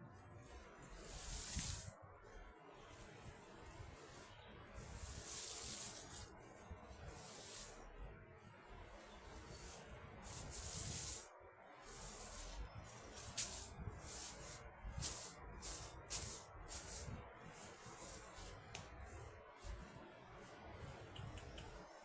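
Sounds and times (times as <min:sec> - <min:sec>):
rustling and brushing: 0:00.4 - 0:22.0.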